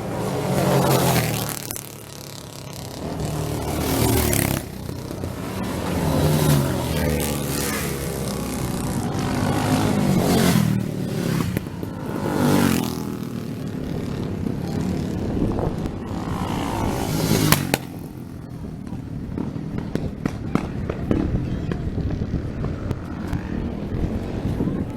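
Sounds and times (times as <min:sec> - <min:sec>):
motorcycles passing at speed: 0:00.0 - 0:24.9.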